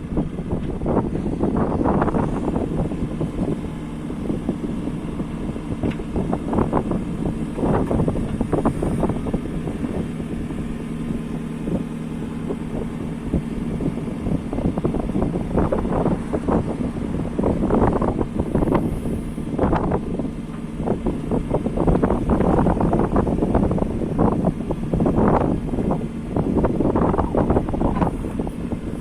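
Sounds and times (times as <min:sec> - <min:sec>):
diesel engine running: 0:00.0 - 0:29.0
wind on microphone: 0:00.0 - 0:29.0.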